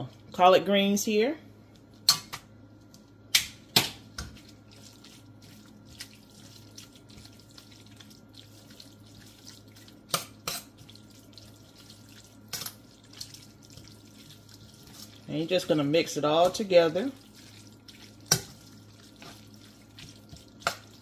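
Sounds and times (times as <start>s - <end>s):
low steady hum: 0.0s - 21.0s
wet stirring of greens: 3.7s - 21.0s.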